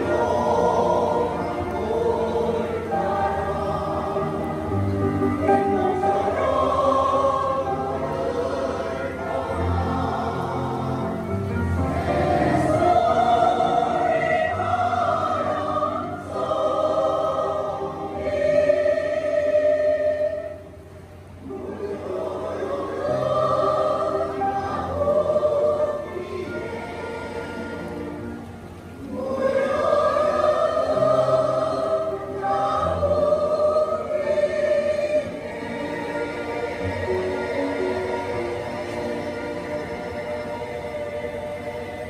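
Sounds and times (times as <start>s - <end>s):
mixed choir singing: 0.0s - 42.0s.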